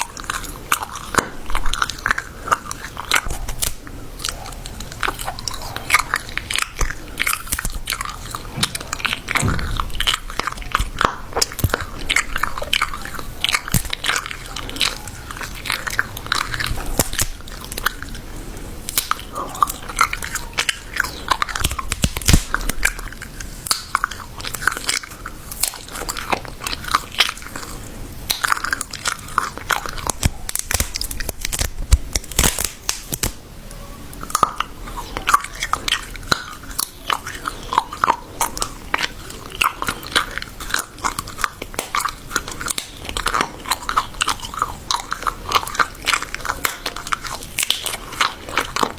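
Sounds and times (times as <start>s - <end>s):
chewing crunchy food: 0.0s - 48.9s.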